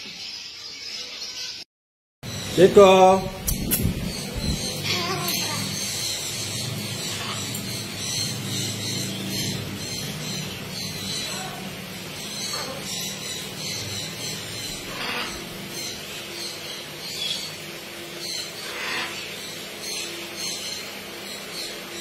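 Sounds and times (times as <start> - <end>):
steady low hum: 2.2 - 22.0
parrots squawking: 2.3 - 21.8.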